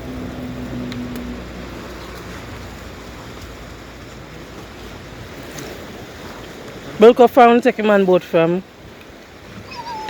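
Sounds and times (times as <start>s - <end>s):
sea surf: 0.0s - 10.0s
wind: 0.0s - 10.0s.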